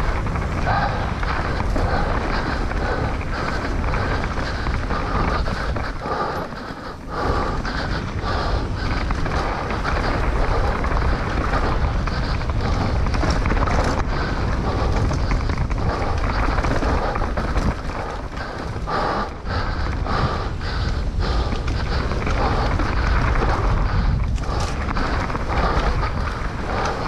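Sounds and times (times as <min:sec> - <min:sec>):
mountain bike rattling on trail: 0:00.0 - 0:27.0
wind buffeting microphone: 0:00.0 - 0:27.0.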